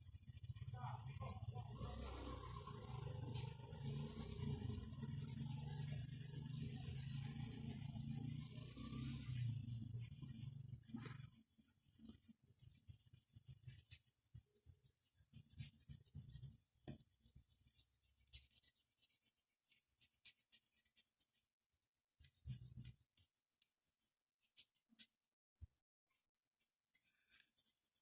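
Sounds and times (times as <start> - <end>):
drawing tool scratching on paper: 0.0 - 25.1.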